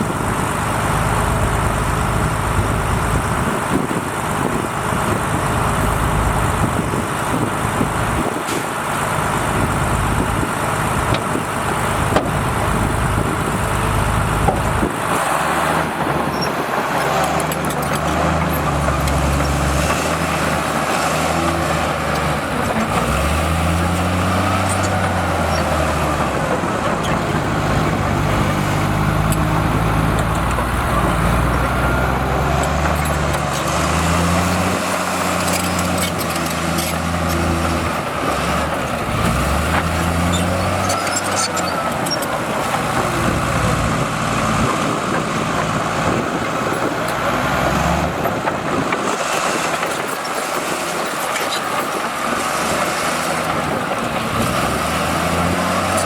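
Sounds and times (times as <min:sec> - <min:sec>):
diesel machinery engine running: 0:00.0 - 0:56.0.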